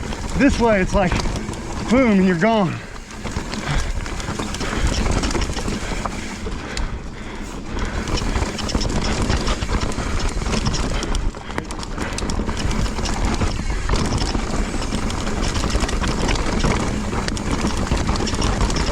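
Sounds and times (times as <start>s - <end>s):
bike rattling and clicking: 0.0s - 18.9s
tyre and trail noise: 0.0s - 18.9s.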